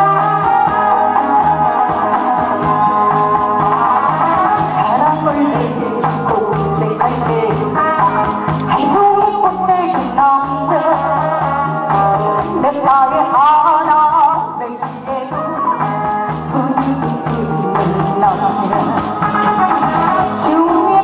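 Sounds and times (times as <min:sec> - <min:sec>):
recorded backing track: 0:00.0 - 0:21.0
woman singing into microphone: 0:04.1 - 0:21.0.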